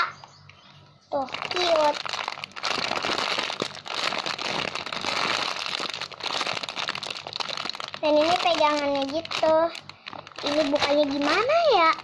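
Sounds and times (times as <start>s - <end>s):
plastic packaging crinkling: 1.2s - 12.0s.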